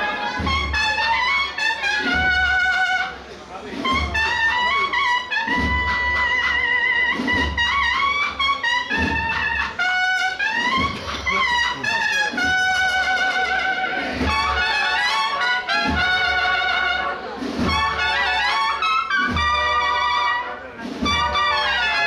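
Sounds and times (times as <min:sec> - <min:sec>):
brass band playing a march: 0:00.0 - 0:22.0
trumpets with vibrato: 0:00.0 - 0:22.0.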